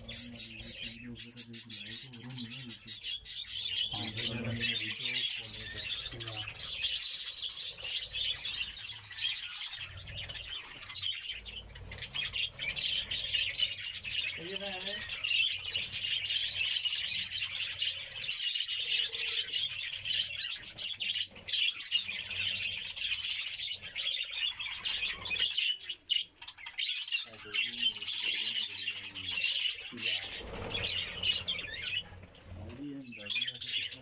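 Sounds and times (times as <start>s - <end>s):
budgerigars chattering: 0.0s - 34.0s.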